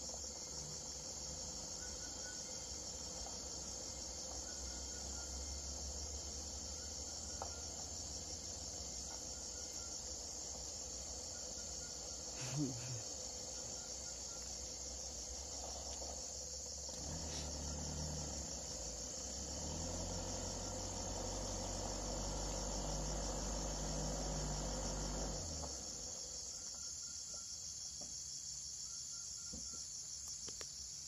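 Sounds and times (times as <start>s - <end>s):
distant vehicle engine hum: 0.0s - 27.4s
insect chorus buzzing: 0.0s - 31.0s.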